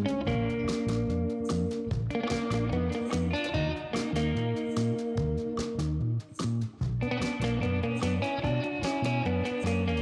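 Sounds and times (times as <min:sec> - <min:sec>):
bass line: 0:00.0 - 0:10.0
plucked guitar: 0:00.0 - 0:10.0.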